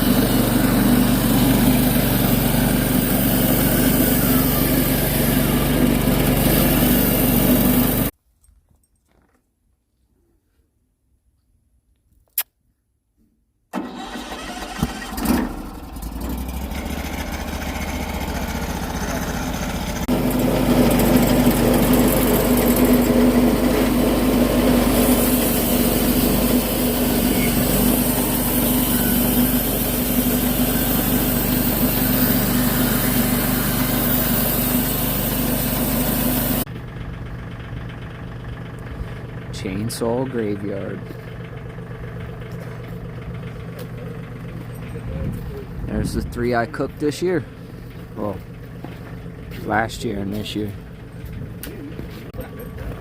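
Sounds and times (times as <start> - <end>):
engine starting and running: 0.0 - 8.2, 13.7 - 53.0.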